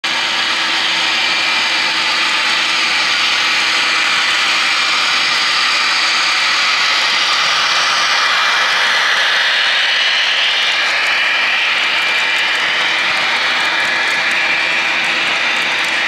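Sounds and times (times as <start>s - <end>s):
model locomotive engine sound: 0.0s - 16.0s.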